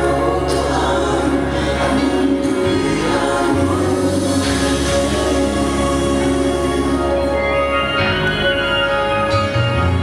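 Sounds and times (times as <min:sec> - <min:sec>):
gospel singing: 0:00.0 - 0:08.9.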